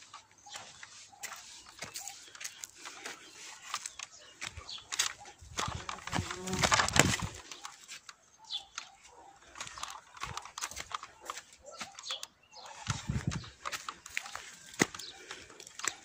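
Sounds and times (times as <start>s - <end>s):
footsteps on dirt and leaves: 0.0s - 16.0s
handheld rustle: 0.0s - 16.0s.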